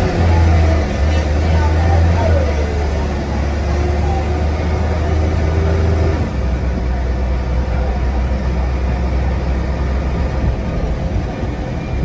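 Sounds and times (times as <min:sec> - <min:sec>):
bus diesel engine drone: 0:00.0 - 0:12.0
engine whine: 0:00.0 - 0:12.0.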